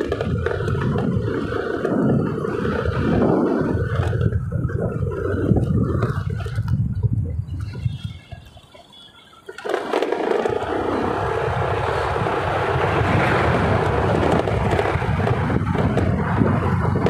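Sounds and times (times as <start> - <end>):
scooter engine running: 0.0 - 6.7, 9.8 - 17.0
wind rushing over microphone: 0.0 - 8.5, 9.9 - 17.0.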